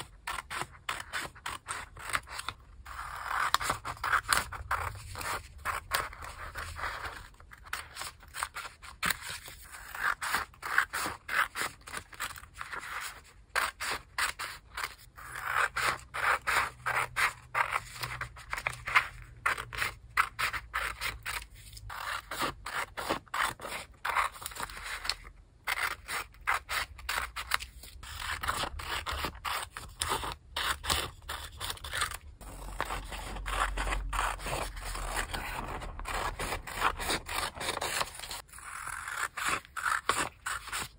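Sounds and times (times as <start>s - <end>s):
scissors snipping paper: 0.0s - 40.9s.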